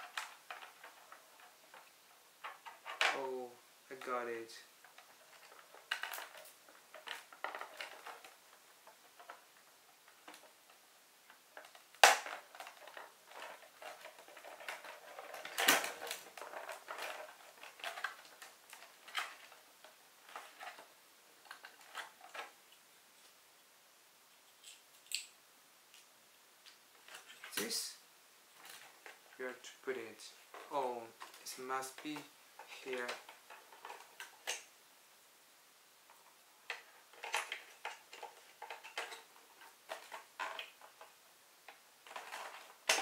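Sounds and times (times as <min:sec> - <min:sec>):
plastic clicks and rustles: 0:00.0 - 0:03.3, 0:04.8 - 0:23.4, 0:24.3 - 0:27.9, 0:28.5 - 0:34.7, 0:36.0 - 0:43.0
plastic parts clattering: 0:00.0 - 0:22.8, 0:27.0 - 0:27.9, 0:28.5 - 0:34.7, 0:36.0 - 0:43.0.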